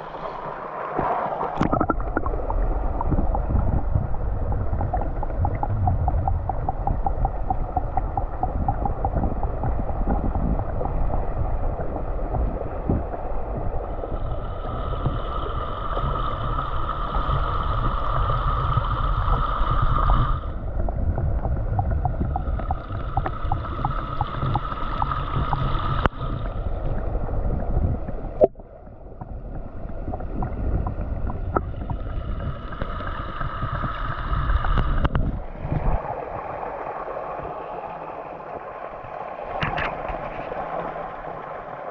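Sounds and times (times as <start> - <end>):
muffled underwater waterfall rushing: 0.0 - 41.9.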